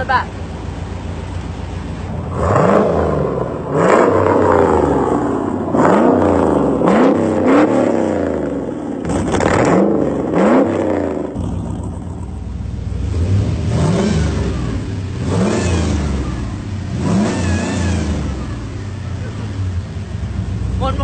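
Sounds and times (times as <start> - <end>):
car engine revving in blips: 0.0 - 21.0.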